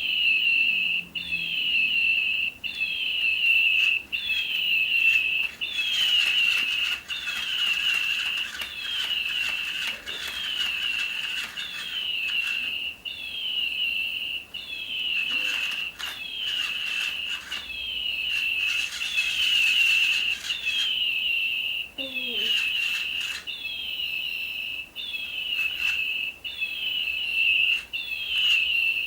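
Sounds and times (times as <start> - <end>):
electronic toy bird chirping: 0.0 - 29.0.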